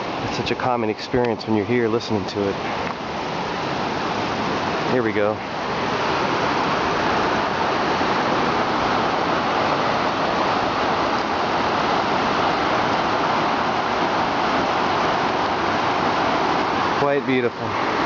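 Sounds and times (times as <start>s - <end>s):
whitewater rapids roaring: 0.0s - 18.0s.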